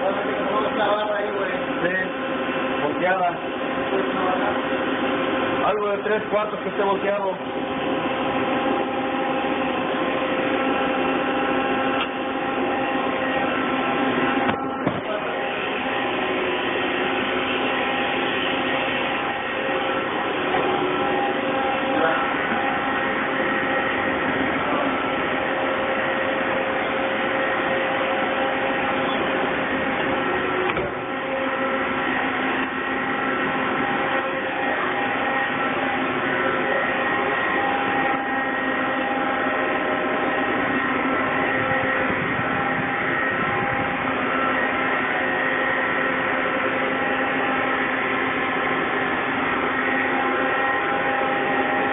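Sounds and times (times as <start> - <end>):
machine-shop machinery whirring: 0.0 - 51.9.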